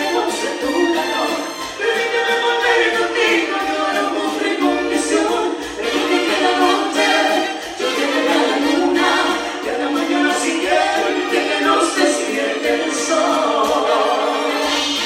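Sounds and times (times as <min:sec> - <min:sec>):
dance band music with vocals: 0:00.0 - 0:15.0.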